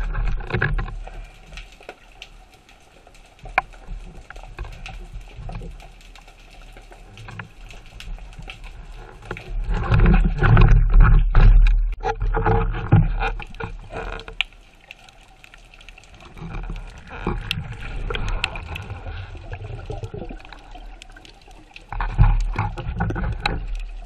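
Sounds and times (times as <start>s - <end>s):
faint clicks: 0.0s - 24.0s
water churning: 0.0s - 24.0s
water sloshing and bubbling: 0.0s - 24.0s.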